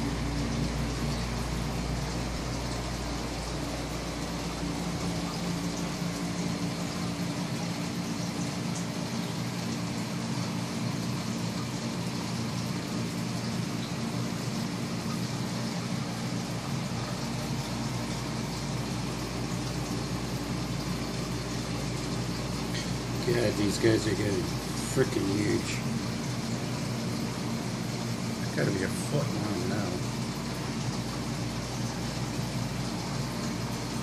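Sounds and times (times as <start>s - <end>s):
aquarium pumps humming: 0.0s - 34.0s.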